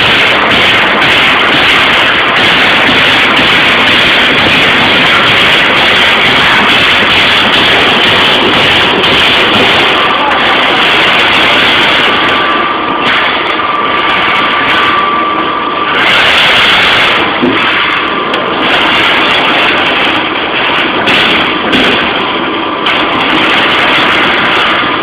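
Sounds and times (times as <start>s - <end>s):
punch press machine din: 0.0s - 25.0s.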